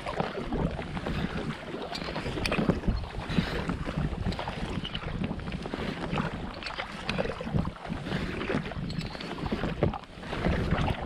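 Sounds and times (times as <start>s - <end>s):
paddle blades splashing in water: 0.0s - 11.0s
wind rumbling on microphone: 0.0s - 11.0s.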